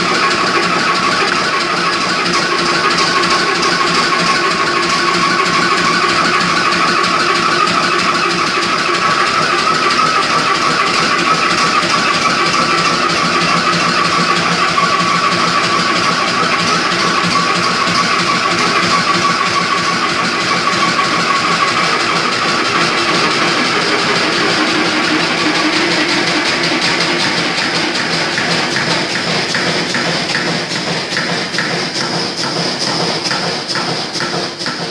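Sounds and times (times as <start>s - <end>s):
stationary oil engine running: 0.0s - 34.9s.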